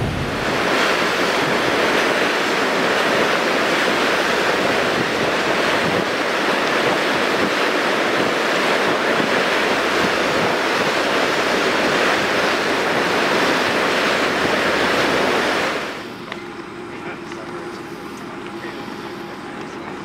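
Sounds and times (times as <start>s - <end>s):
sea waves rushing: 0.0s - 19.6s
wind over open water: 0.0s - 20.0s.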